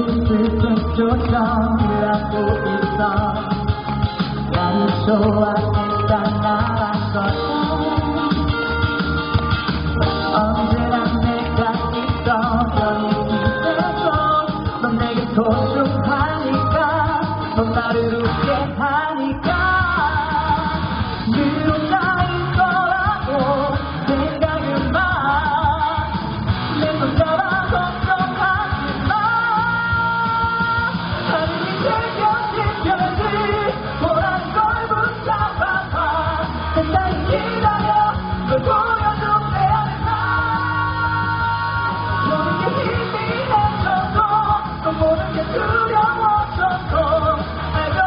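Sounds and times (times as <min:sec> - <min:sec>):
band playing steady beat: 0:00.0 - 0:18.8, 0:19.4 - 0:48.0
man singing pop song: 0:00.0 - 0:48.0.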